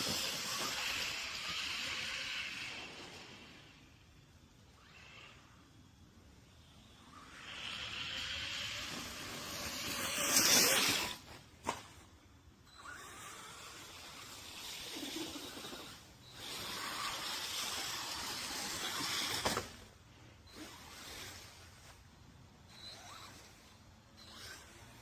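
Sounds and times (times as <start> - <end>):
rc truck tyres hissing on dirt: 0.0 - 12.2, 12.8 - 22.3.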